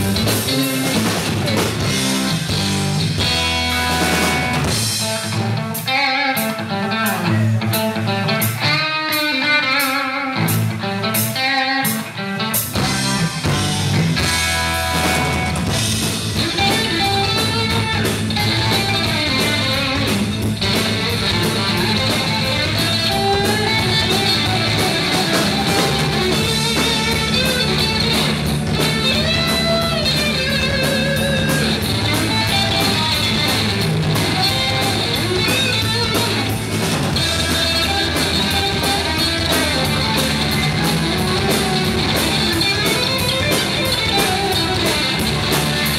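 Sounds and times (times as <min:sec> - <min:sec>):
drum kit steady beat: 0:00.0 - 0:05.9, 0:10.5 - 0:45.9
bass guitar: 0:00.0 - 0:45.9
electric guitar: 0:00.0 - 0:45.9.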